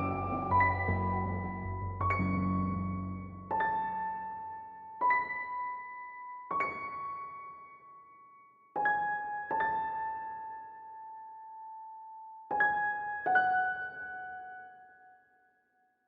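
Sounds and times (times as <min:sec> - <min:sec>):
slow piano melody: 0:00.0 - 0:15.2.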